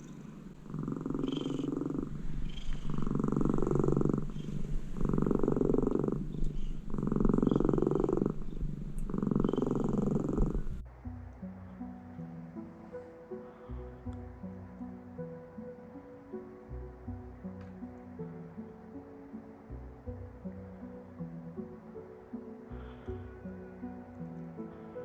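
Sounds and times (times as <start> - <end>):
cat purring: 0.0 - 10.9, 12.6 - 25.0.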